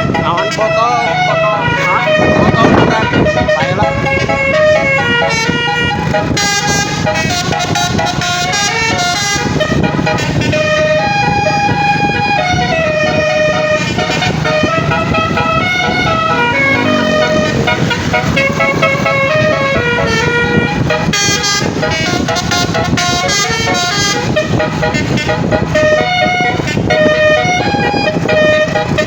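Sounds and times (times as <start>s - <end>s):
low engine rumble: 0.0s - 29.0s
musical bus horn playing a tune: 0.0s - 29.0s.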